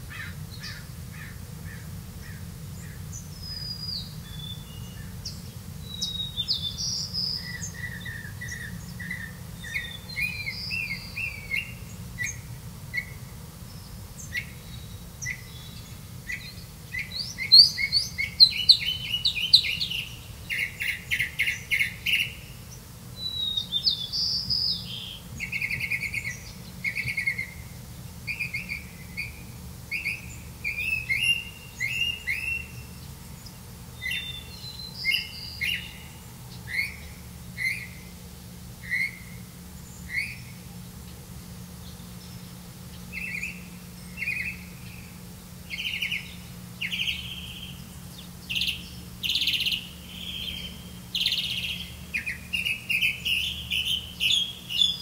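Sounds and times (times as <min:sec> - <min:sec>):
low steady hum: 0:00.0 - 0:55.0
small birds chirping: 0:00.0 - 0:55.0.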